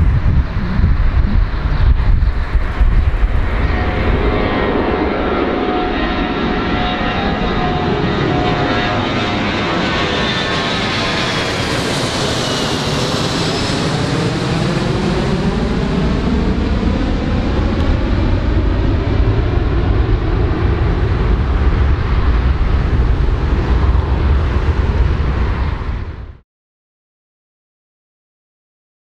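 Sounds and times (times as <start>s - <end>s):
deep jet engine rumble: 0.0s - 26.4s
jet engines high whine: 0.0s - 26.4s.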